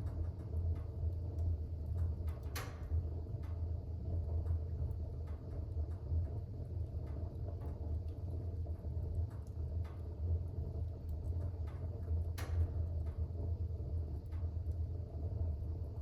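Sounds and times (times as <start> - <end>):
fire crackles and pops: 0.0 - 16.0
fire rumbling in a fireplace: 0.0 - 16.0.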